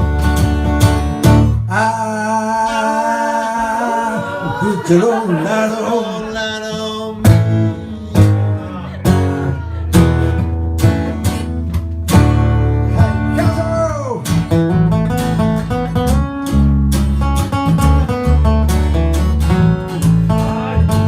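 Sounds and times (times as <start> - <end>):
bass guitar line: 0.0 - 21.0
strummed acoustic guitar: 0.0 - 21.0.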